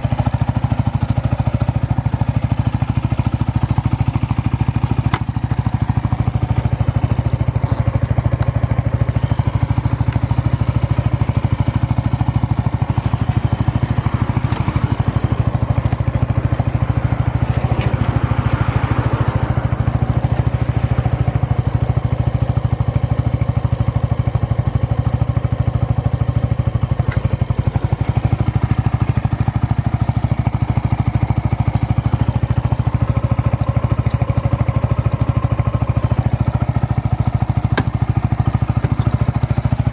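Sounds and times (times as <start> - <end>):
single-cylinder engine idling: 0.0 - 39.9.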